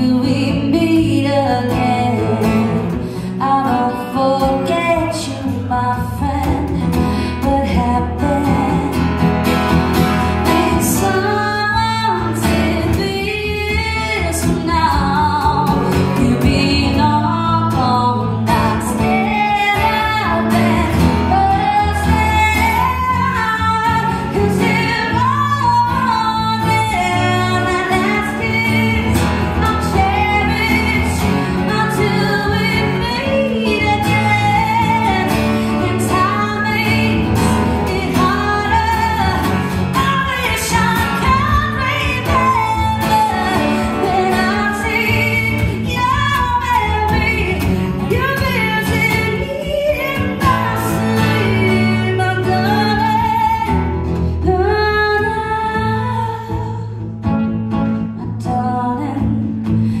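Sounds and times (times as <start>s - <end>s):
acoustic guitar strumming: 0.0s - 60.0s
woman singing pop ballad: 0.0s - 60.0s.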